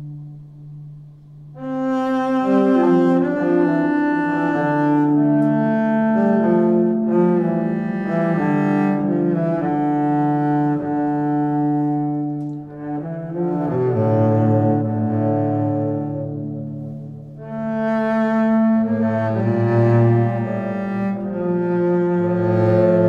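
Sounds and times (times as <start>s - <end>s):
slow bowed string melody: 0.0s - 23.0s.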